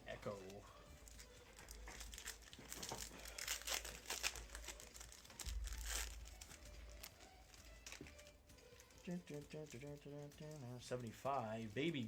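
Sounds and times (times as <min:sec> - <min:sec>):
foil wrapper tearing and crinkling: 0:00.1 - 0:12.0.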